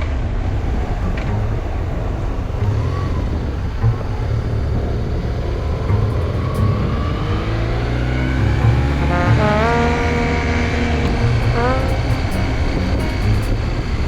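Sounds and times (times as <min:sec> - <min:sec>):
low wind rumble: 0:00.4 - 0:14.0
motorcycle engine running: 0:00.4 - 0:14.0.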